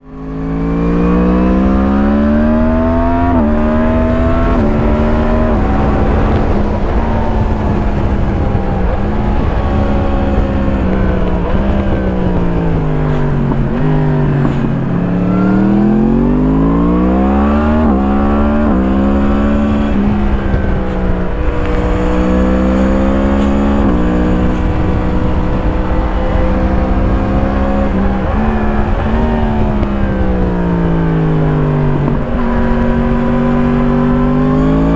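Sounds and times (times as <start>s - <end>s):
motorcycle engine accelerating: 0.0s - 34.9s
wind rushing: 0.2s - 34.9s.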